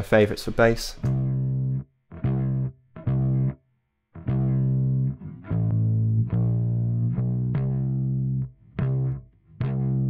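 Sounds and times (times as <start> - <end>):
bass notes: 0.9 - 3.6, 4.2 - 10.0.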